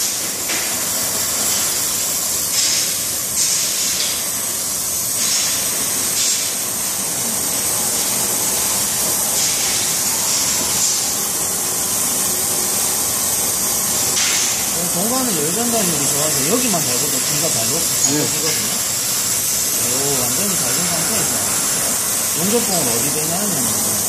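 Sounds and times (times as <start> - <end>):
torch flame hissing: 0.0 - 24.0.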